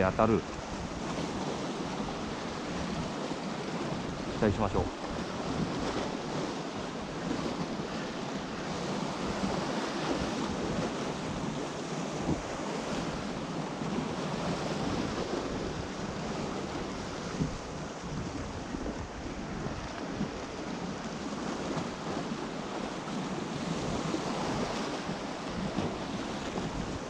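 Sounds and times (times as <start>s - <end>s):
waves washing against rocks: 0.0s - 27.0s
wind buffeting microphone: 0.0s - 27.0s.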